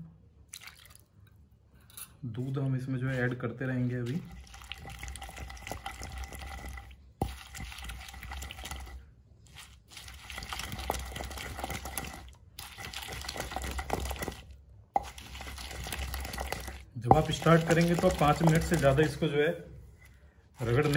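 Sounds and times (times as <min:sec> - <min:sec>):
wet rubbing and scraping of paste: 0:03.0 - 0:20.9.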